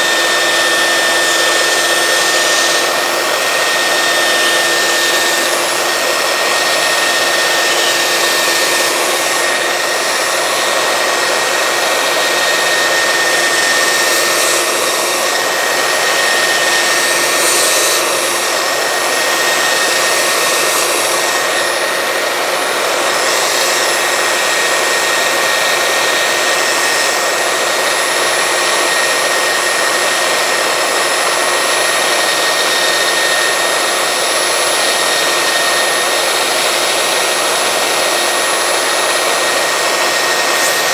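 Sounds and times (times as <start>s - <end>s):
belt sander whining: 0.0s - 40.9s
wood board being sanded: 0.0s - 40.9s.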